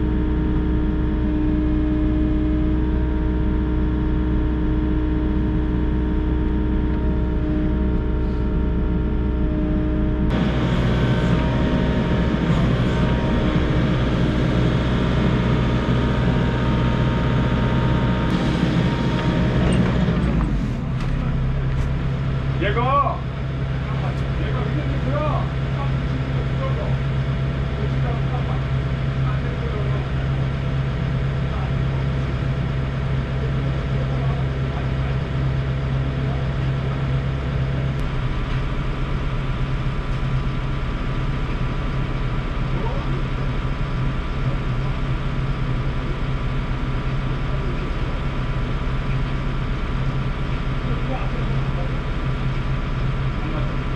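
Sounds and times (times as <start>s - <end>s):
excavator engine and hydraulics: 0.0s - 53.9s.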